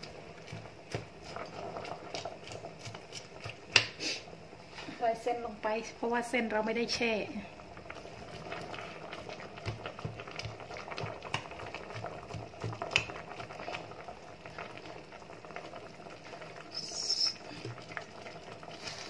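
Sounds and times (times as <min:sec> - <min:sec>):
broth bubbling in a pot: 0:00.0 - 0:19.0.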